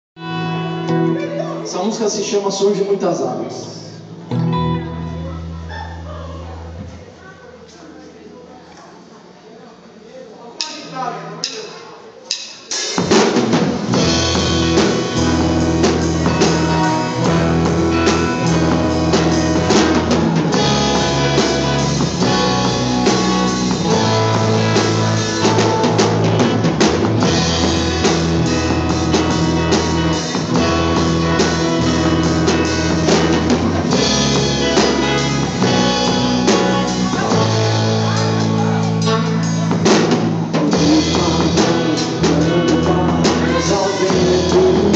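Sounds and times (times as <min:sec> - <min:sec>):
bass notes: 0:00.2 - 0:02.3, 0:03.2 - 0:07.6, 0:13.4 - 0:44.9
live band playing: 0:00.2 - 0:07.8, 0:12.2 - 0:44.9
drums: 0:00.2 - 0:08.4, 0:10.5 - 0:44.9.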